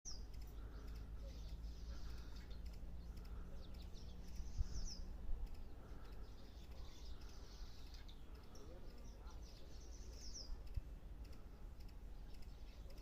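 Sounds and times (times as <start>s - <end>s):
swallow twittering: 0.1s - 13.0s.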